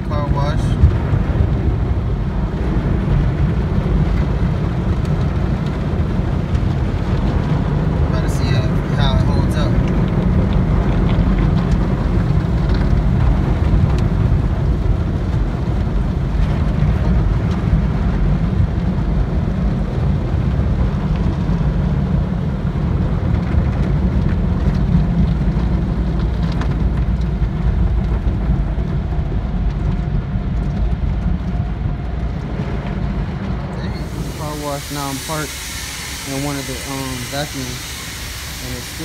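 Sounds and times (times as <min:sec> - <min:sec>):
heavy low rumble: 0:00.0 - 0:39.0
water spraying on car windshield: 0:00.0 - 0:39.0.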